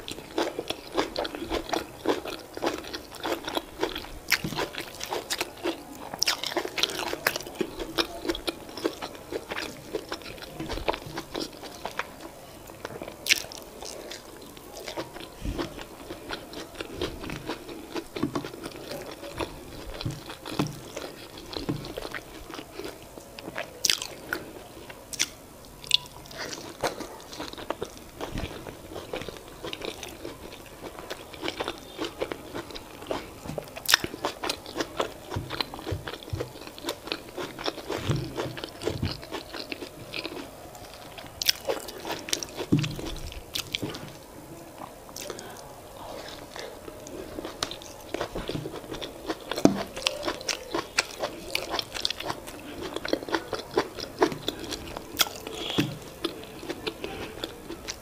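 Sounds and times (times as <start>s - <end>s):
chewing with wet smacks and clicks: 0.0s - 58.0s.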